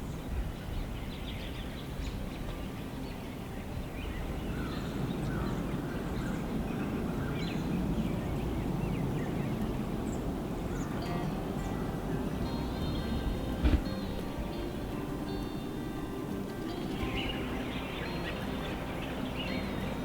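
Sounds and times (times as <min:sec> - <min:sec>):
low wind rumble: 0:00.0 - 0:20.0.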